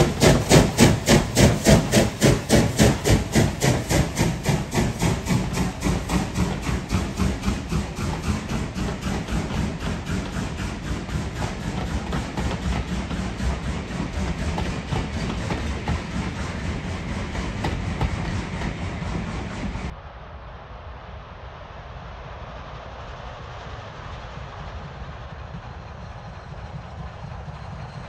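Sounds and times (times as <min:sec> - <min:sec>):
steam locomotive exhaust beats: 0:00.0 - 0:20.0, 0:21.0 - 0:28.0.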